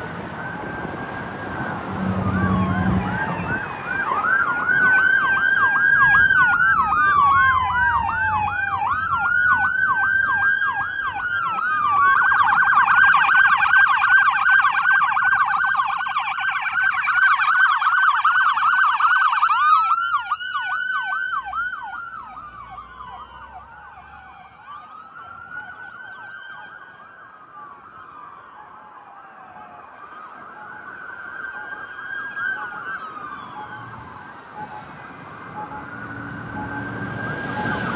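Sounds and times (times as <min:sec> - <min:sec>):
electronic sirens wailing and yelping: 0:00.0 - 0:26.8, 0:29.5 - 0:37.9.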